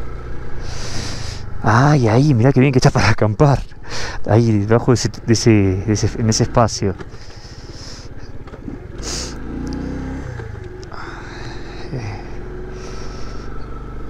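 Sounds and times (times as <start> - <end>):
small motorcycle engine running: 0.0 - 1.9, 4.5 - 14.0.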